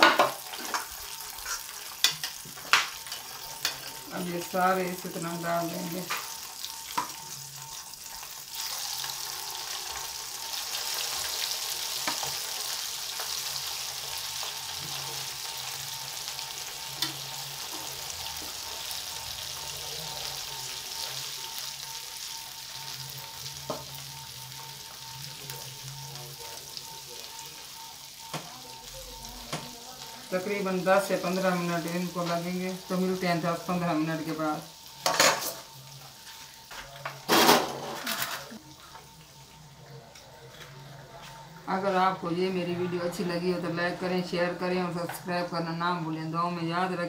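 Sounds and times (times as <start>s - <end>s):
chicken deep-frying in oil: 0.0s - 40.9s.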